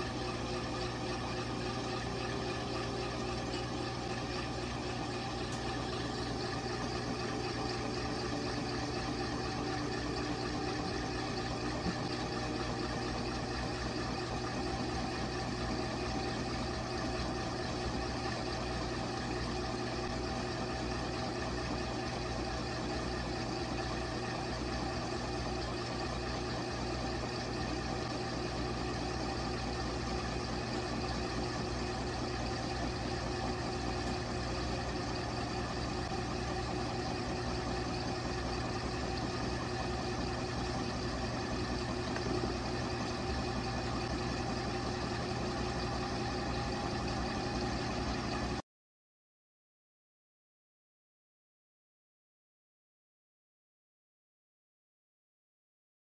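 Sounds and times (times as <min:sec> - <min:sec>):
washing machine motor humming: 0:00.0 - 0:48.6.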